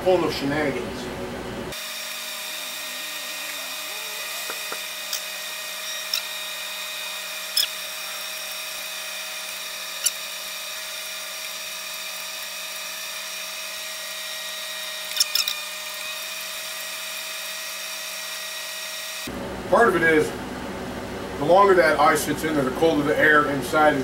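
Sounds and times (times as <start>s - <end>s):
fan motor whine: 0.0s - 24.0s.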